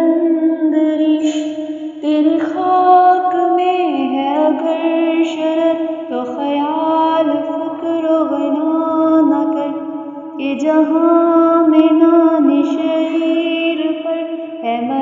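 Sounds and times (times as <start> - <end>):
person singing chant-like melody: 0.0 - 15.0.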